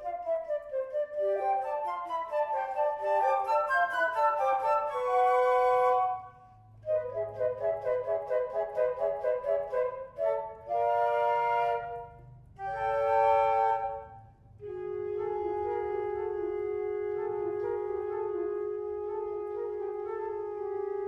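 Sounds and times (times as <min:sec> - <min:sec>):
flutes playing chamber music: 0:00.0 - 0:21.0.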